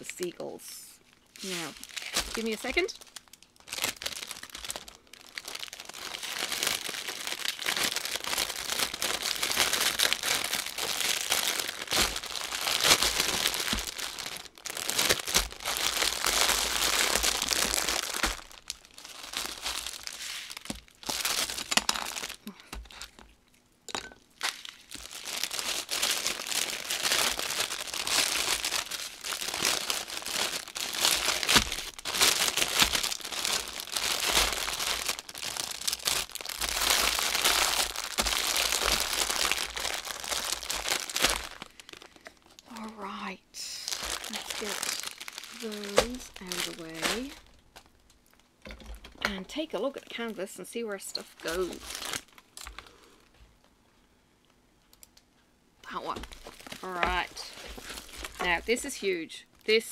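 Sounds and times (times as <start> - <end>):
plastic bags crinkling: 0.0 - 53.4, 55.8 - 59.9.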